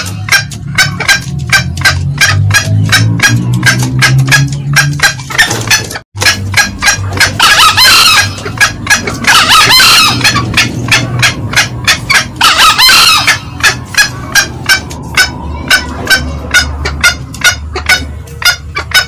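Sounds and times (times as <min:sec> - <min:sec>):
junglefowl cackling clucks: 0:00.0 - 0:19.0
junglefowl drawn-out calls: 0:00.0 - 0:19.0.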